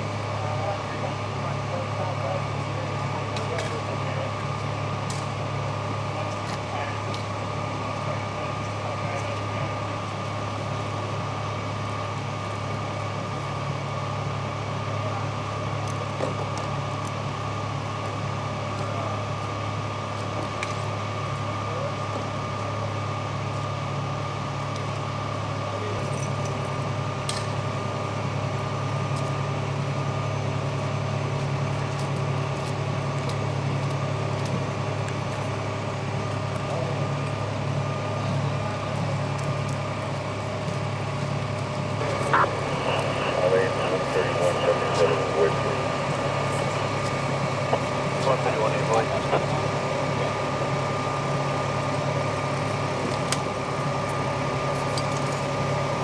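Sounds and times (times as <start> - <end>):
faint steady whine: 0.0 - 56.0
fire truck engines idling: 0.0 - 56.0.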